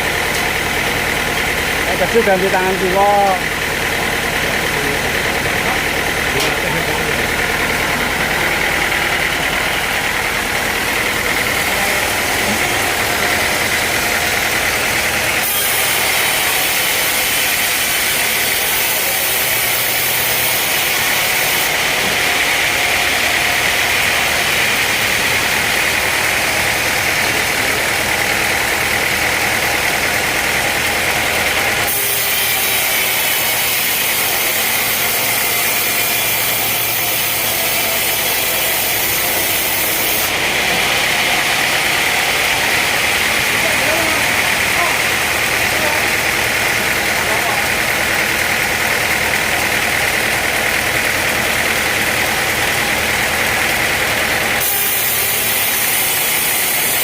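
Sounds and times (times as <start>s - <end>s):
hissing sawing: 0.0s - 57.0s
sawmill engine running: 0.0s - 57.0s.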